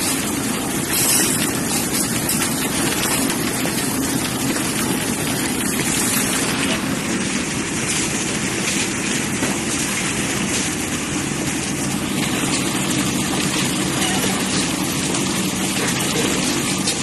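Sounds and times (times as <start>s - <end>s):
concrete machinery engine drone: 0.0s - 17.0s.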